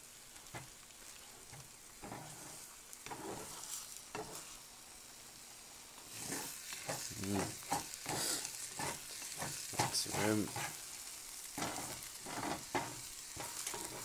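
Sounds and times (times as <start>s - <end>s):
eggs sizzling in a frying pan: 0.0s - 14.0s
spatula scraping a pan: 0.4s - 4.6s, 6.1s - 14.0s.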